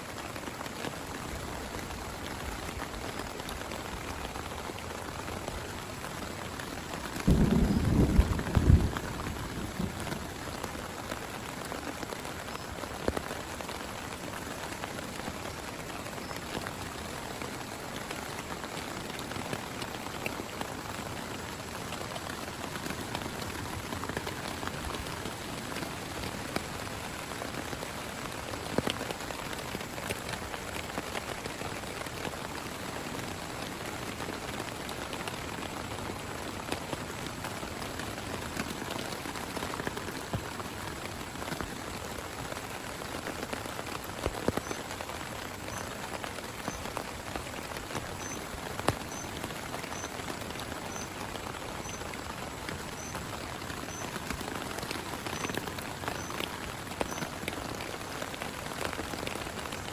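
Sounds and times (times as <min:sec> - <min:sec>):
heavy rain falling: 0:00.0 - 0:59.9
raindrops ticking near microphone: 0:00.0 - 0:59.9.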